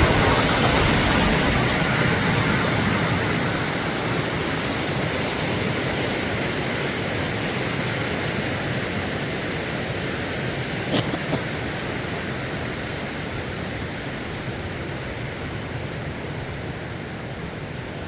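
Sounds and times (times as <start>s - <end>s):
creek rushing over rocks: 0.0s - 17.8s.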